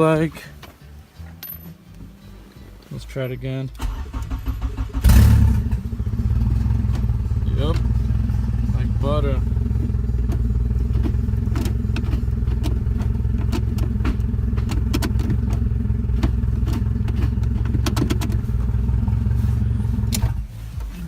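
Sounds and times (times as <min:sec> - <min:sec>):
car engine idling: 0:03.8 - 0:21.0.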